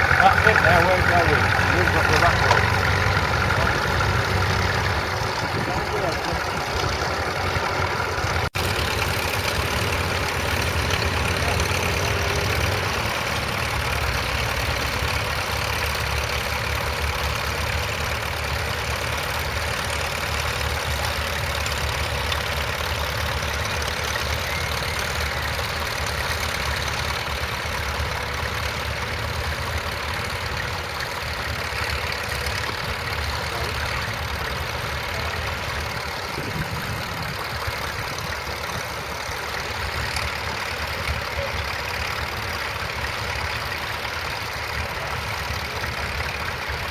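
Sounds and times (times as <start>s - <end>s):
crawler tractor engine running: 0.0s - 46.9s.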